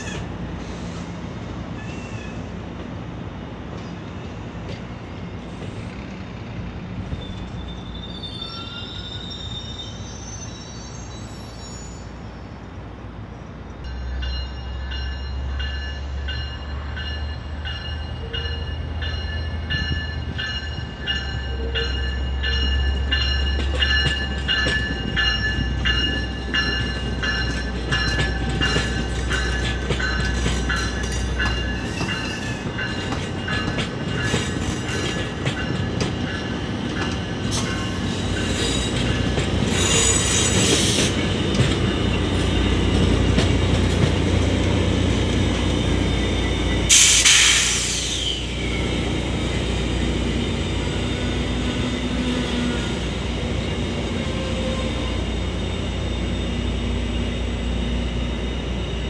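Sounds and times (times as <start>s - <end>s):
diesel train rumble: 0.0s - 59.0s.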